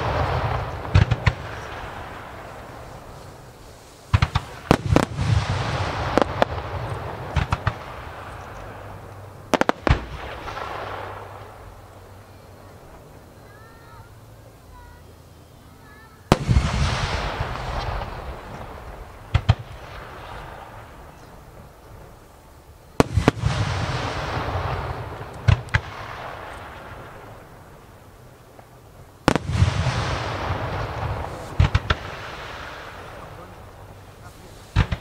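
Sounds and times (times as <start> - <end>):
firework shells booming: 0.0 - 14.0, 16.2 - 35.0
small firework cracks: 0.0 - 14.1, 15.8 - 35.0
rumble and hiss: 0.0 - 35.0.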